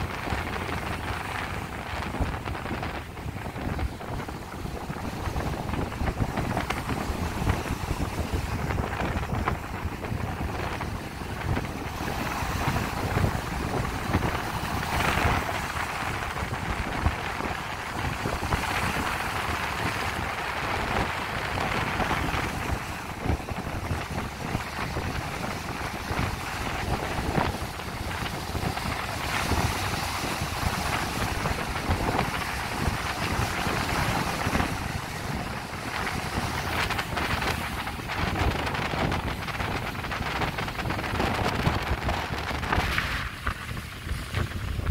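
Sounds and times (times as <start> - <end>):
waves breaking over rocks: 0.0 - 44.9
wind gusting on microphone: 0.0 - 44.9.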